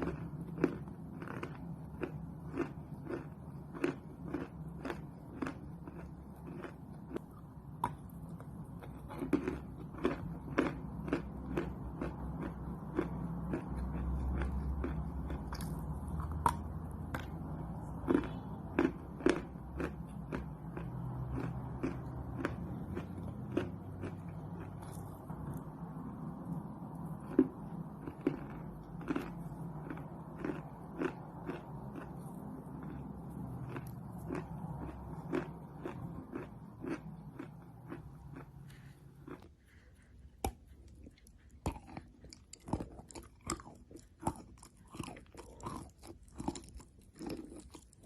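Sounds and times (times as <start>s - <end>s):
chalk being chewed: 0.0s - 48.0s.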